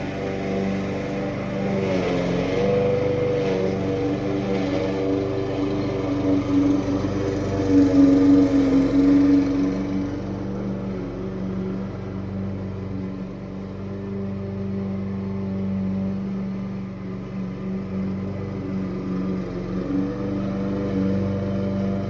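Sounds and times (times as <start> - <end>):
small petrol engine running: 0.0 - 22.0.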